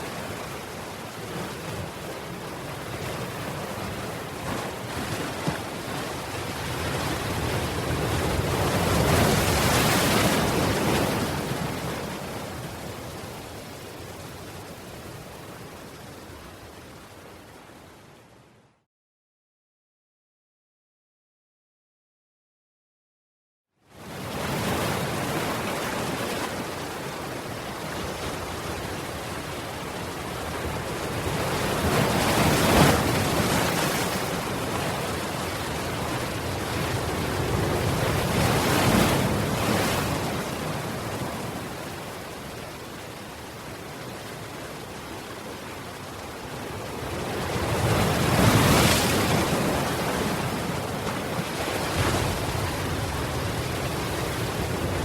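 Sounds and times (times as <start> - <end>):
sea waves surging and breaking: 0.0 - 18.7, 23.9 - 55.0.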